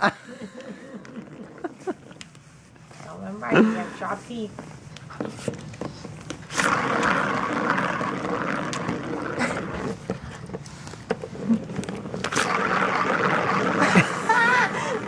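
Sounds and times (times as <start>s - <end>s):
ball rolling round plastic track: 0.0s - 3.4s, 4.0s - 15.0s.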